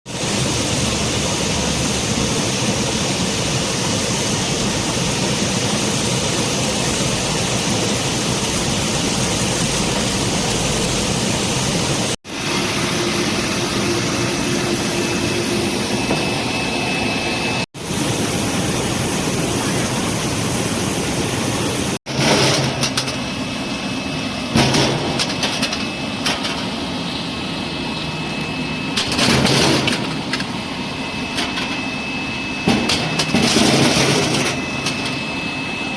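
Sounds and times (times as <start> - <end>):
washing machine rushing sprays: 0.1 - 35.9.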